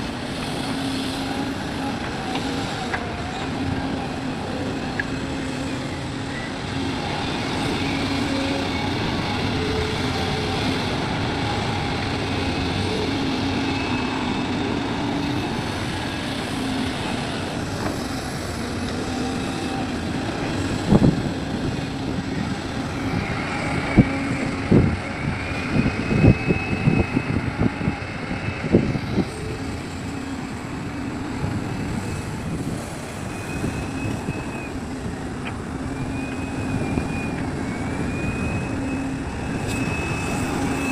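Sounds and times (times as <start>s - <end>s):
excavator diesel engine: 0.0s - 40.9s
hydraulic whine: 0.0s - 40.9s.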